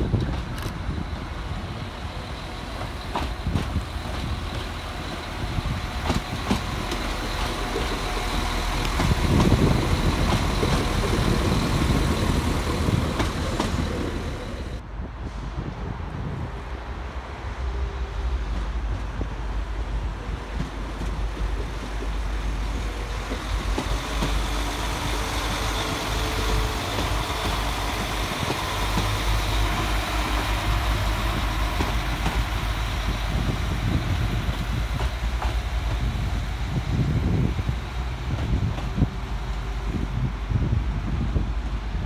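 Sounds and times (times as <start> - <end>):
diesel train engine rumble: 0.0 - 42.0
rail and wheel noise: 0.0 - 42.0.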